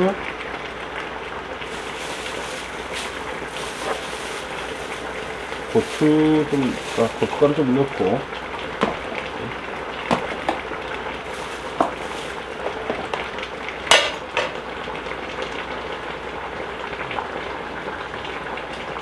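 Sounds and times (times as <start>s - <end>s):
stew bubbling: 0.2s - 18.9s.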